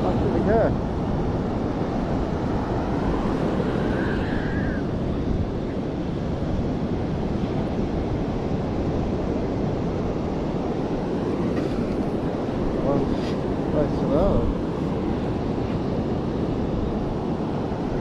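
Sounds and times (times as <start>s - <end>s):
ocean surf: 0.0s - 18.0s
wind on microphone: 0.0s - 18.0s.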